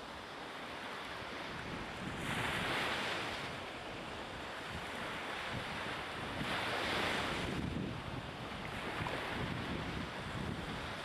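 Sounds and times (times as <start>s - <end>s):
waves lapping against quay: 0.0s - 11.0s
wind on microphone: 1.1s - 11.0s.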